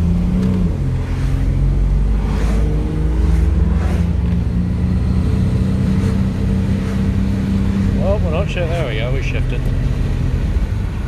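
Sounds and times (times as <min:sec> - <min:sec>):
car engine under load: 0:00.0 - 0:11.0
road and wind noise: 0:00.0 - 0:11.0.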